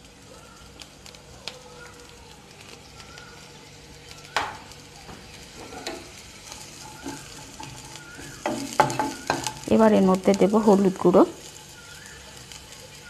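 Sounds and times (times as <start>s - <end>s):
vegetable slices sizzling in oil: 0.0s - 13.0s.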